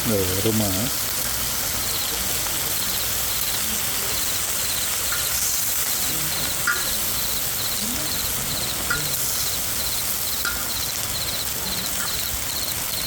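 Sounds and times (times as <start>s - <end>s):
steady hiss: 0.0s - 13.0s
insects chirping in pulsed trills: 1.4s - 13.0s.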